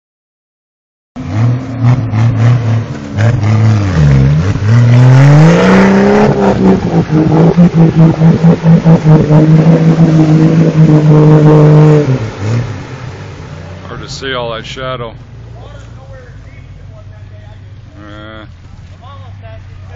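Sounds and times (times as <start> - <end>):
truck engine revving: 1.2 - 19.9.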